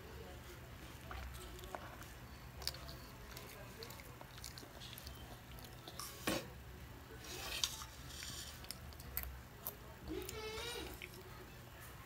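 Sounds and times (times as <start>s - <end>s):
child chewing: 0.6s - 6.5s, 7.1s - 11.6s.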